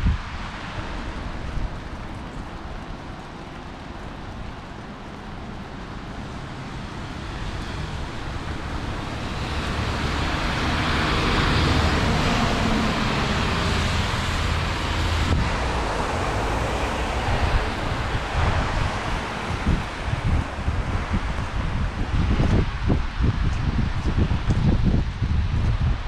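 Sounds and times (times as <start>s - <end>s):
thunder rumbling: 0.0s - 23.9s
heavy rain: 0.0s - 26.0s.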